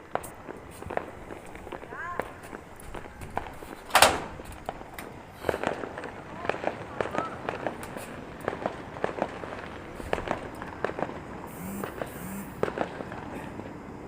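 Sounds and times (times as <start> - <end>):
firecrackers banging and popping: 0.0 - 14.0
fireworks crackling: 0.0 - 14.0.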